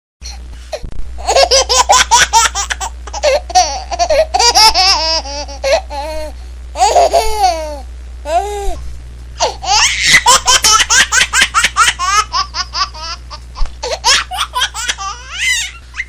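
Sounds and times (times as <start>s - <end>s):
low hum: 0.2s - 16.0s
baby laughing: 1.2s - 6.2s, 6.8s - 8.5s, 9.4s - 16.0s.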